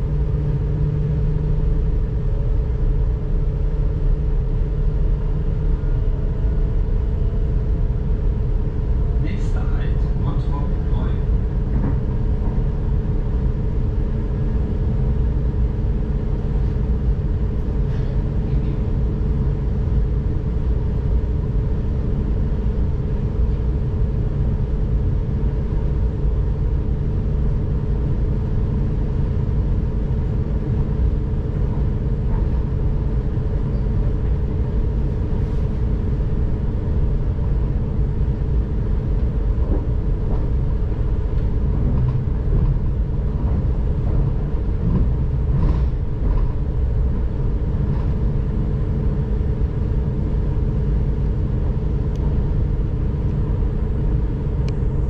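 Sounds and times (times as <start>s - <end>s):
even train hum: 0.0s - 55.0s
train wheels rumbling on rails: 0.0s - 55.0s.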